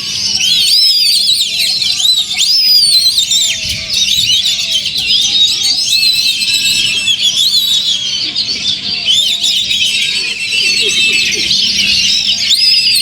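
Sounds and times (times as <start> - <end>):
birds singing whistles and trills: 0.0 - 13.0.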